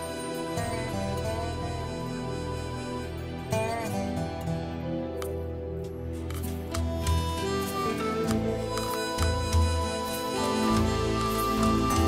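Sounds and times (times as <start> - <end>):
slow soft instrumental music: 0.0 - 12.0.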